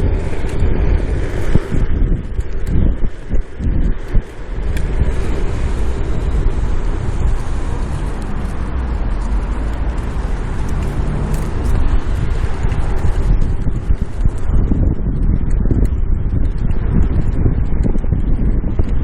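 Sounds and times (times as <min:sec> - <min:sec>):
bicycle rolling on road: 0:00.0 - 0:19.0
wind rushing over microphone: 0:00.0 - 0:19.0.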